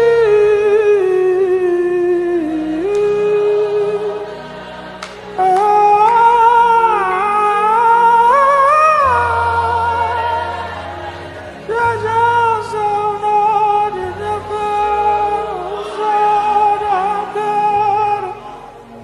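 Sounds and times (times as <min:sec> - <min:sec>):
quiet accompaniment: 0:00.0 - 0:19.0.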